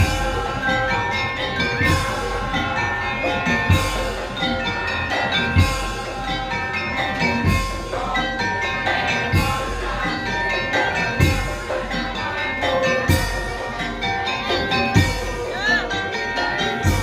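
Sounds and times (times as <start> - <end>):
drums: 0.0 - 17.0
ringing metallophone melody: 0.0 - 17.0.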